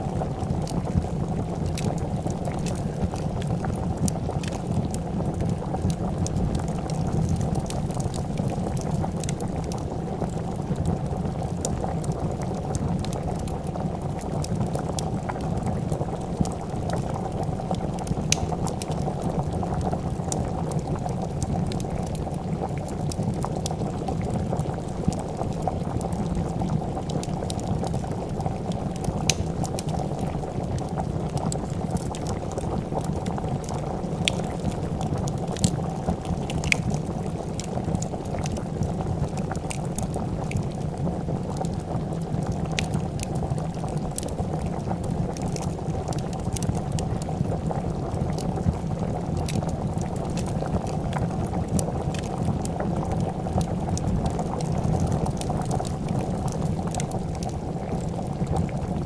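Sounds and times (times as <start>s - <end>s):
soup boiling and bubbling: 0.0s - 59.0s
wood fire crackling: 0.0s - 59.0s.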